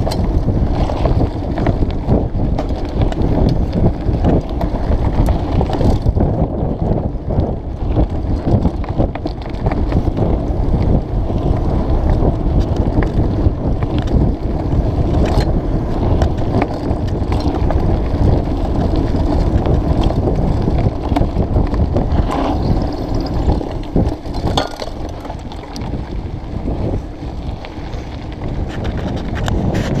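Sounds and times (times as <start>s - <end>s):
bike knocks and rattles: 0.0s - 30.0s
tyres rumbling on dirt trail: 0.0s - 30.0s
wind on the microphone: 0.0s - 30.0s.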